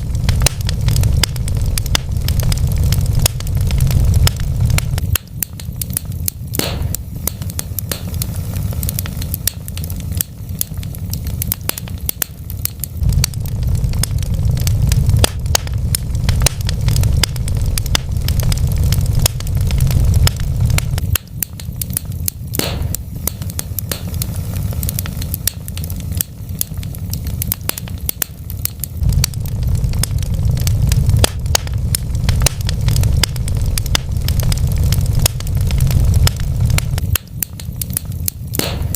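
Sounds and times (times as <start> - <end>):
loud pop from fire: 0.0 - 38.9
wood fire crackling: 0.0 - 38.9.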